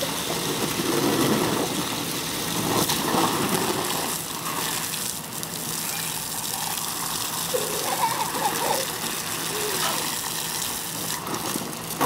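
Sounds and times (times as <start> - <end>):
water spraying from a hose: 0.0 - 12.0.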